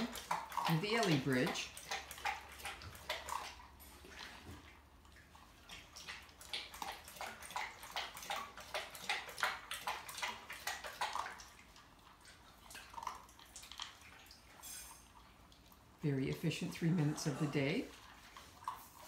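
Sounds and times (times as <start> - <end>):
dog lapping water from metal bowl: 0.0 - 19.0.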